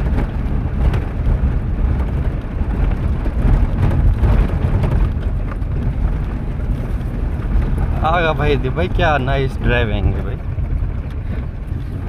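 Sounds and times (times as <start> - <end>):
engine and tyres rumbling on sand: 0.0 - 12.0
wind buffeting microphone: 0.0 - 12.0.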